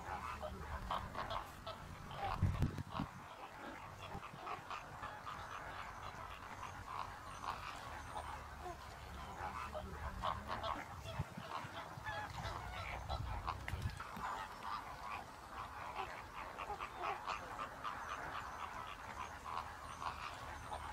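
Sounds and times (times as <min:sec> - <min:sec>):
flamingos honking and chattering: 0:00.0 - 0:20.9.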